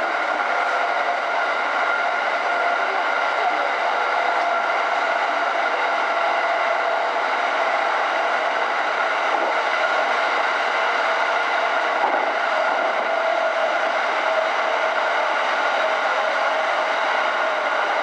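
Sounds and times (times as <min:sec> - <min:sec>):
train wheels rushing on rail: 0:00.0 - 0:18.0.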